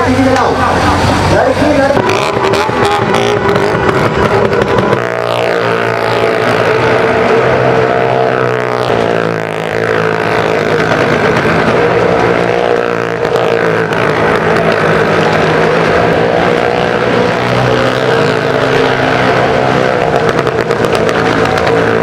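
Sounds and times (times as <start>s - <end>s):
motorcycle engine at high revs: 0.0s - 22.0s
small car engine at high revs: 0.0s - 22.0s.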